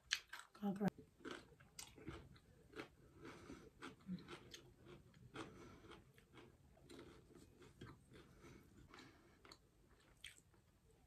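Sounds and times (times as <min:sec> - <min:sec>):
person chewing: 0:00.0 - 0:10.6.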